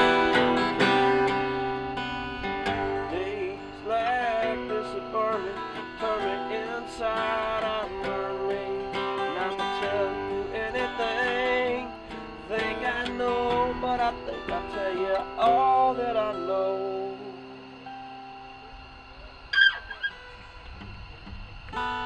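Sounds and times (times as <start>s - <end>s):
acoustic guitar picking and strumming: 0.0s - 22.0s.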